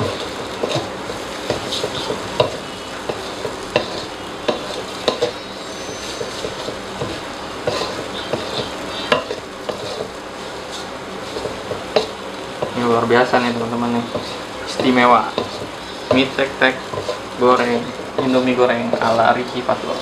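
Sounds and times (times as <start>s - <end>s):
noodles sizzling in a wok: 0.0s - 20.0s
spatula scraping a pan: 0.0s - 20.0s.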